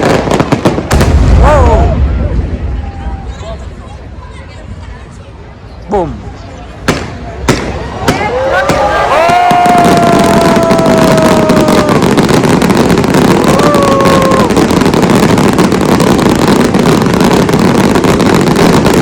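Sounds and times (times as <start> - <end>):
fireworks crackling and rumbling: 0.0 - 19.0.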